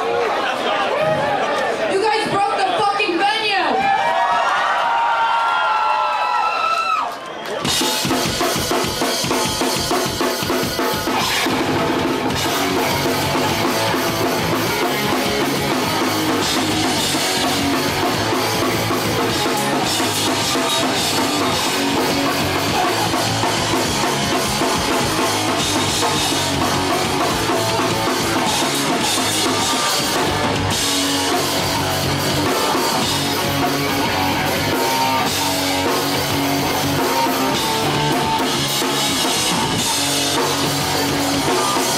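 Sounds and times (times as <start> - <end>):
distorted electric guitar: 7.6 - 41.9
drum kit: 7.6 - 41.9.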